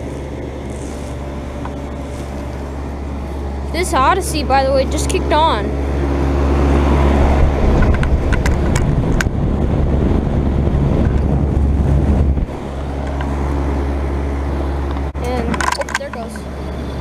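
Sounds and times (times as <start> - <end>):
fan air rushing: 0.0 - 17.0
heat pump low hum: 0.0 - 17.0.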